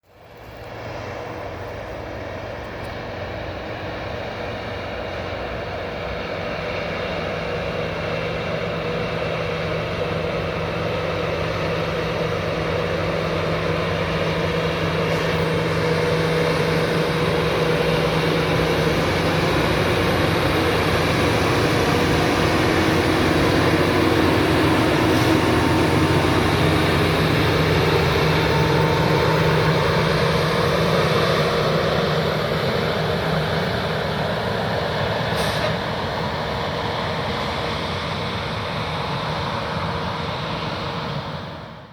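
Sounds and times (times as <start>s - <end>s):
rail grinder engines droning: 0.0s - 41.9s.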